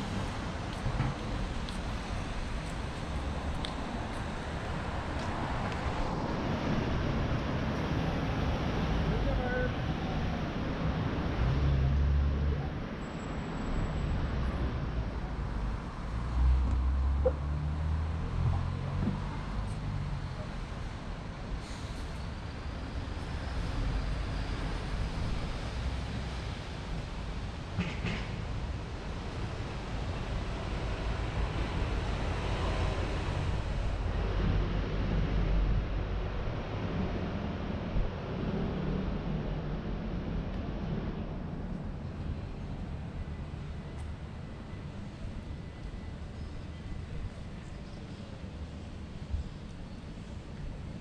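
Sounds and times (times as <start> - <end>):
street noise: 0.0 - 51.0.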